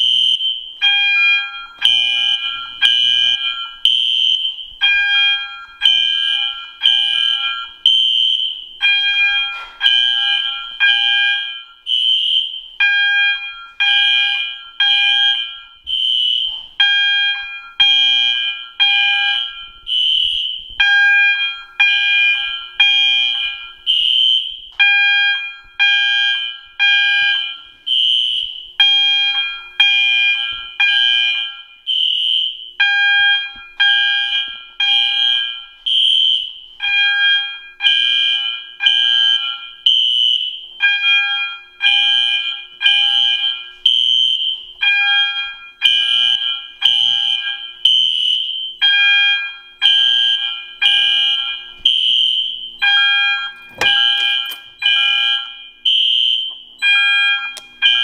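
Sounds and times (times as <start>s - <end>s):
fire alarm horns pulsing: 0.0s - 58.0s.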